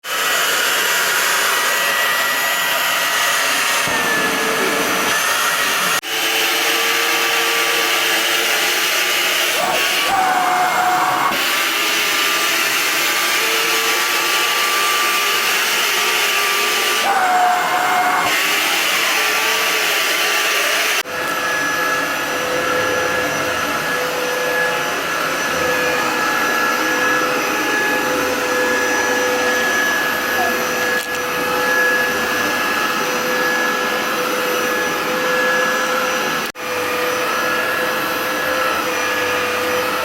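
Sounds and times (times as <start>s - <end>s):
stick vacuum whining: 0.0s - 40.0s.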